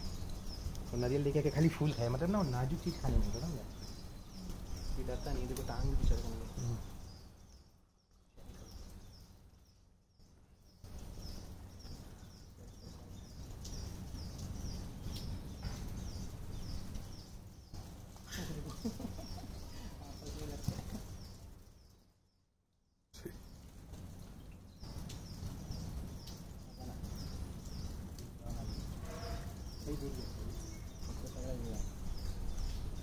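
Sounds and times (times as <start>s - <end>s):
low outdoor rumble: 0.0s - 22.0s, 23.2s - 33.0s
bird chirping: 0.0s - 22.5s, 23.2s - 33.0s.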